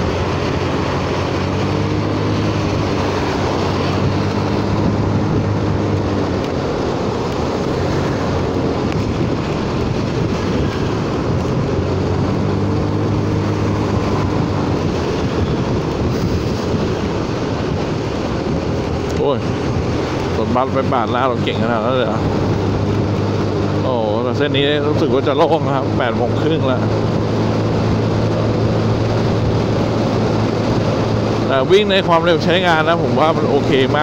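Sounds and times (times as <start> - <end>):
tyres hissing on wet road: 0.0 - 34.0
wind rushing: 0.0 - 34.0.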